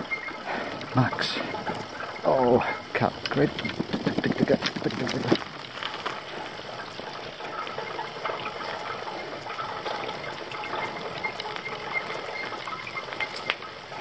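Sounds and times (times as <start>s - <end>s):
bike ticks and rattles: 0.0s - 14.0s
tyres hissing on gravel: 0.0s - 14.0s.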